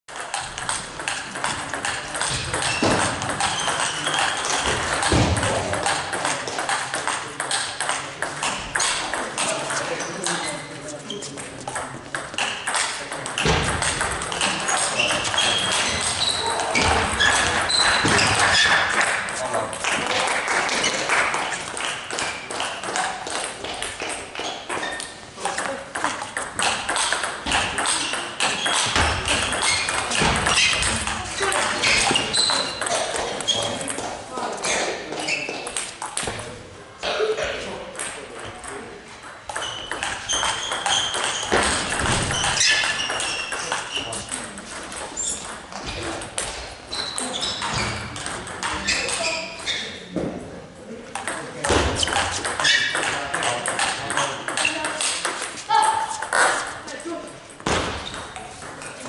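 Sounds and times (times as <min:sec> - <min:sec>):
table tennis balls clicking: 0:00.1 - 0:10.4, 0:11.3 - 0:34.1, 0:35.2 - 0:36.3, 0:37.9 - 0:49.9, 0:51.1 - 0:59.0.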